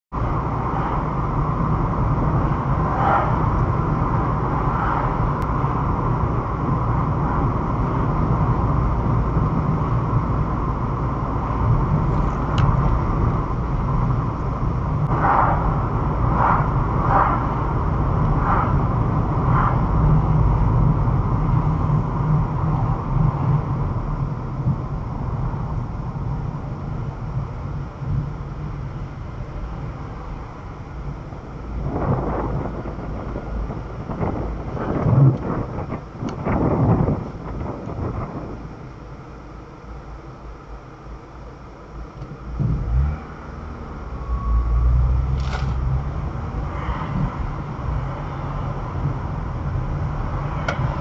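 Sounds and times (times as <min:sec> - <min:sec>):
car engine and road rumble: 0:00.1 - 0:51.0.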